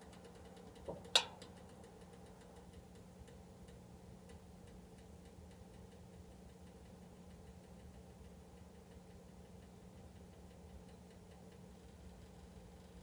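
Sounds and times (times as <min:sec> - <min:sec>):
electric heater ticking: 0:00.0 - 0:13.0
low steady hum: 0:00.0 - 0:13.0.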